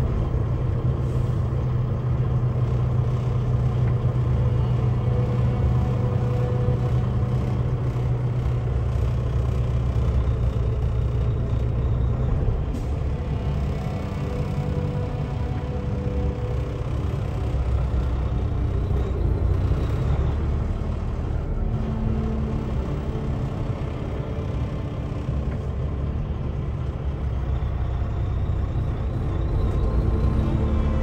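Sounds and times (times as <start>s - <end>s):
truck engine and road rumble: 0.0s - 31.0s.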